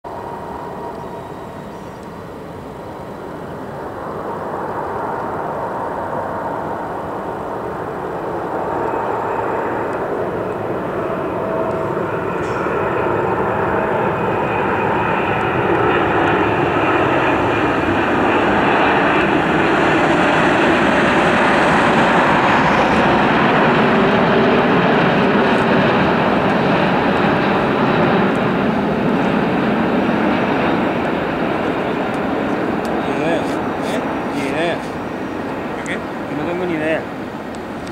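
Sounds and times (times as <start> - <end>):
faint steady whine: 0.0 - 37.9
jet airliner approaching: 0.0 - 37.9.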